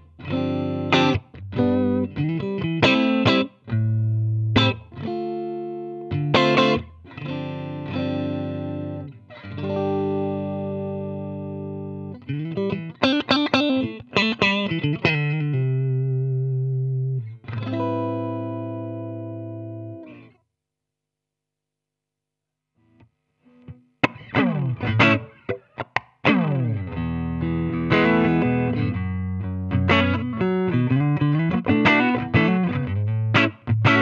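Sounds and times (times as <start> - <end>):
electric guitar chords: 0.0 - 20.3, 23.5 - 34.0
picked guitar notes: 0.0 - 20.4, 23.5 - 34.0.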